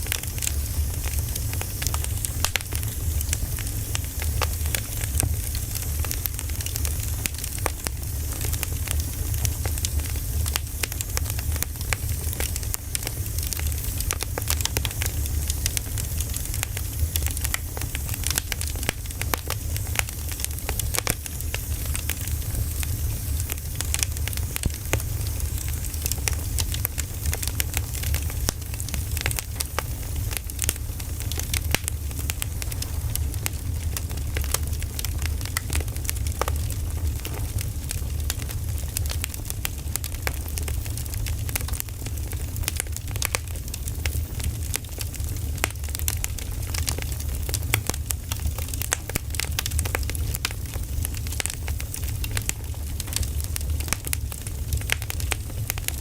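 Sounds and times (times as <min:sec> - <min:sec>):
firewood crackling and popping: 0:00.0 - 0:56.0
low fire rumble: 0:00.0 - 0:56.0.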